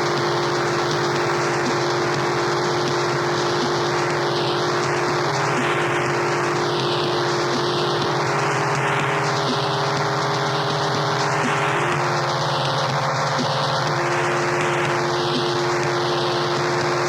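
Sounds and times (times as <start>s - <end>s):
harsh noise static: 0.0s - 17.0s
low drone tones: 0.0s - 17.0s.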